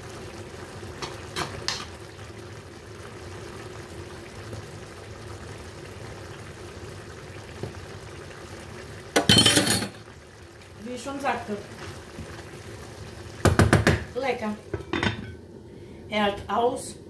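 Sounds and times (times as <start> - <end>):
pots simmering on stove: 0.0 - 17.0.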